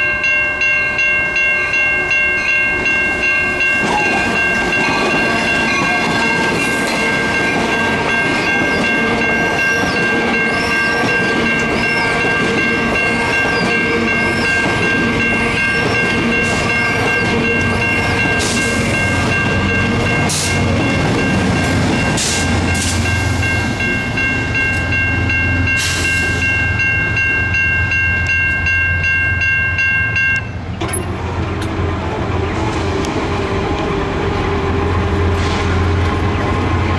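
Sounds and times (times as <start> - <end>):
crossing bell ringing: 0.0 - 31.6
train wheels clicking and rumbling: 2.1 - 36.9.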